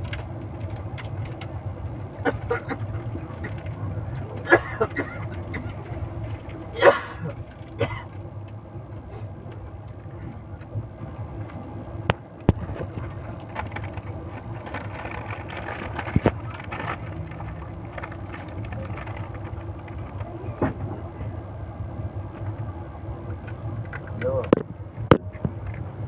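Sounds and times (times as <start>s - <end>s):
passenger train rumbling: 0.0s - 26.0s.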